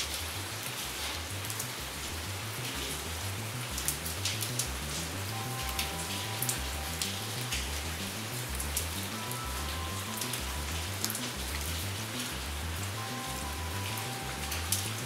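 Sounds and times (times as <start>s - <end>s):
rain drops ticking: 0.0s - 15.0s
soft calm music: 0.0s - 15.0s.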